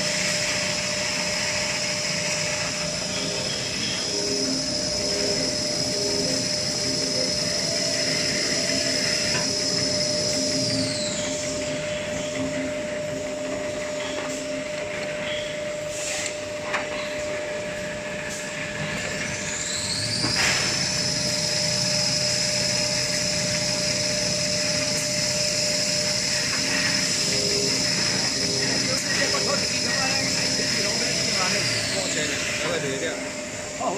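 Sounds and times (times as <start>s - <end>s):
machinery high whine: 0.0s - 33.9s
machinery hum: 0.0s - 33.9s.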